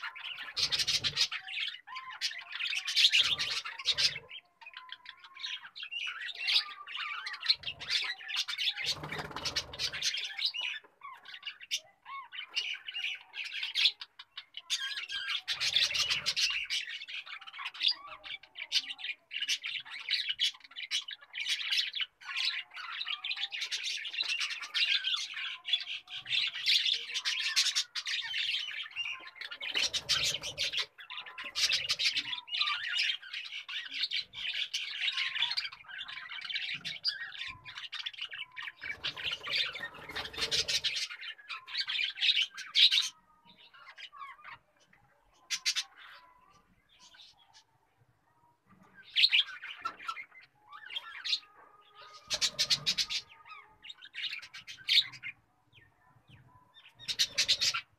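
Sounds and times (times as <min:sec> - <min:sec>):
birds chirping and squawking: 0:00.0 - 0:57.9.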